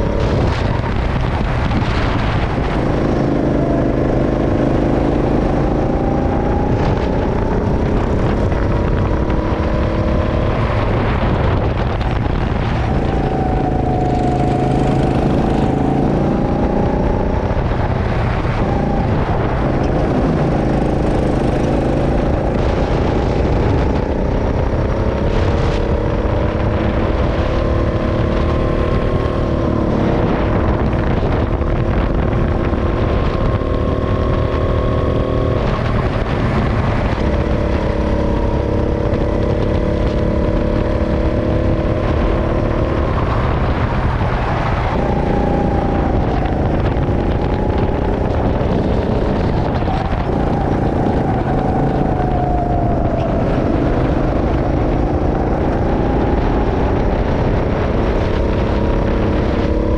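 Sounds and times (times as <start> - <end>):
kart engine running hard: 0.0 - 59.9
wind and road noise: 0.0 - 59.9.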